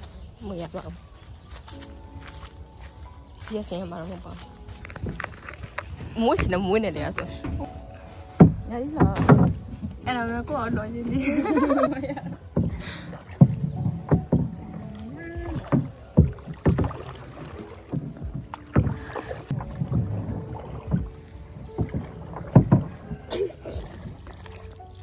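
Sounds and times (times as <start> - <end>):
paddle knocking boat: 0.0 - 25.0
paddle splashing water: 0.0 - 25.0.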